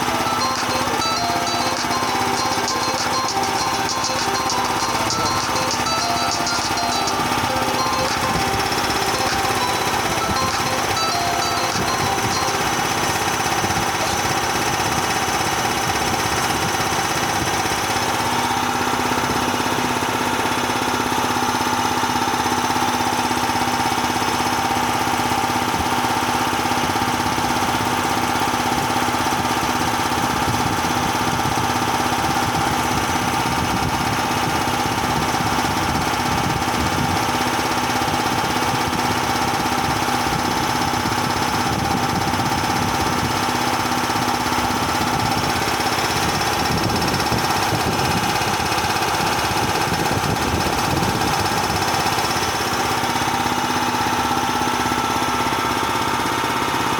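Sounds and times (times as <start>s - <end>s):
piston compressor running: 0.0s - 56.9s.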